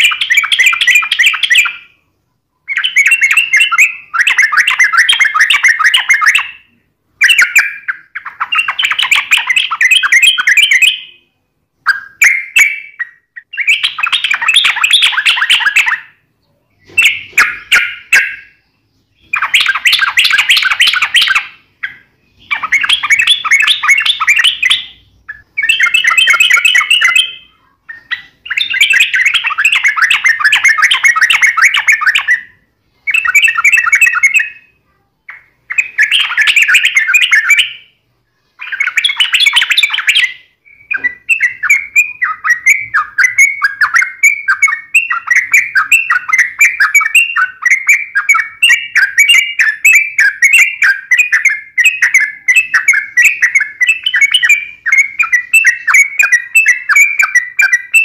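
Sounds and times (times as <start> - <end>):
bulbul chattering song: 0.0 - 58.0.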